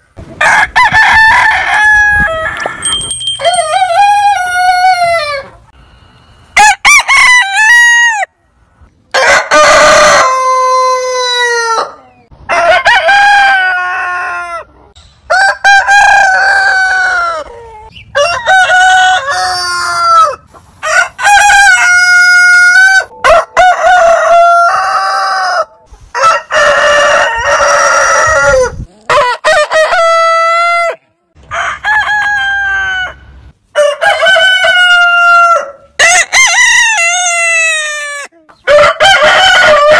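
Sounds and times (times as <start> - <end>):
roosters crowing: 0.4 - 5.8, 6.6 - 8.3, 9.1 - 39.9.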